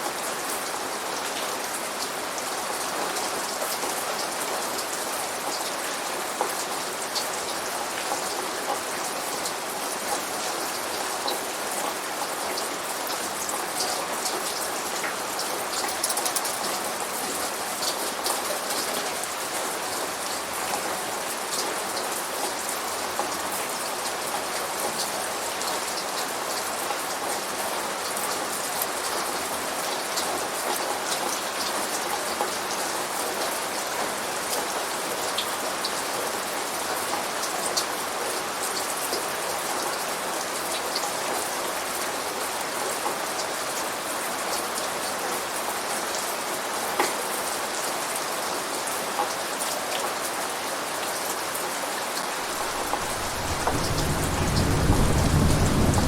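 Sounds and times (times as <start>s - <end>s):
rain pattering: 0.1s - 56.0s.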